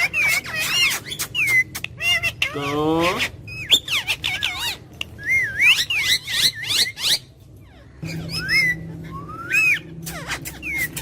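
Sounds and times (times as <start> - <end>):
low steady hum: 0.0 - 11.0
parrot chattering and whistling: 0.0 - 11.0.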